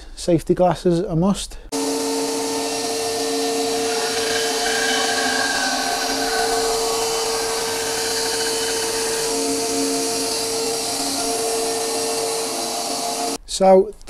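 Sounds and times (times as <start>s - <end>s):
bandsaw cutting wood: 1.7s - 13.4s
dust extraction hiss: 1.7s - 13.4s.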